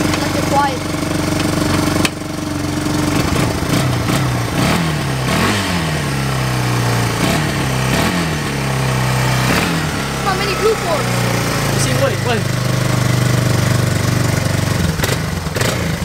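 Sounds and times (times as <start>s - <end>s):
atv engine idling and revving: 0.0s - 16.0s.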